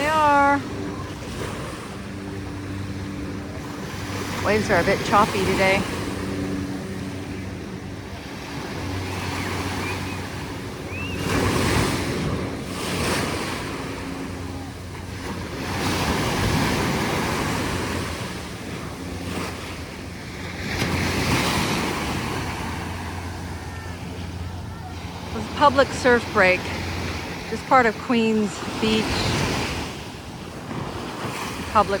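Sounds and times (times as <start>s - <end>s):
ocean waves breaking in surf: 0.0s - 32.0s
wind buffeting microphone: 0.0s - 32.0s.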